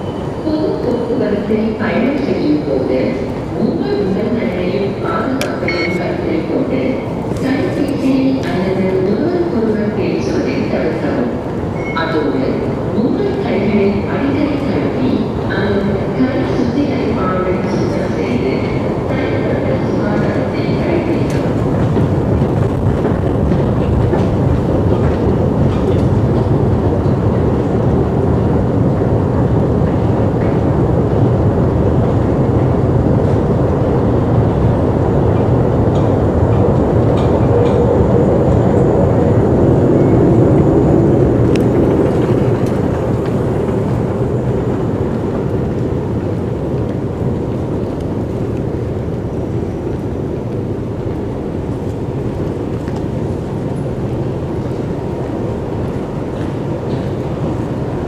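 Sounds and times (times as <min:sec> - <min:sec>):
escalator rumble and hum: 0:00.0 - 0:58.0.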